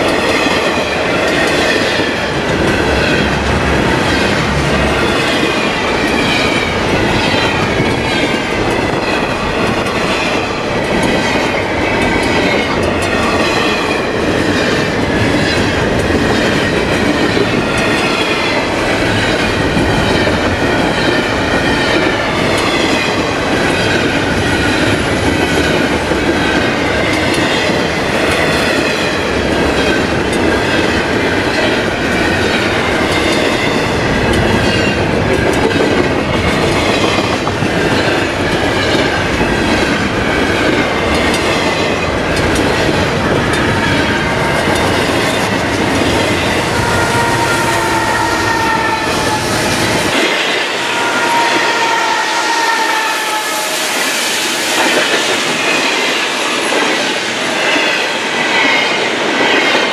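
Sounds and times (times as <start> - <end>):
clickety-clack over rail joints: 0.0 - 52.2, 53.9 - 59.9
train wheels rushing on rail: 0.0 - 59.9.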